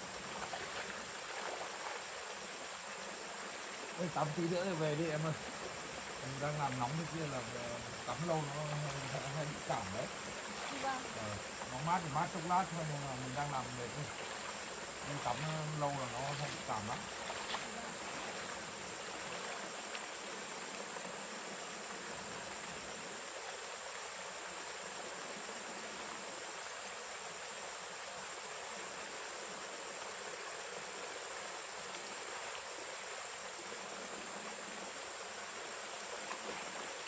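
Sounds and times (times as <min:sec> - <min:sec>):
high-pitched insect chorus: 0:00.0 - 0:37.0
stream water rushing: 0:00.0 - 0:37.0.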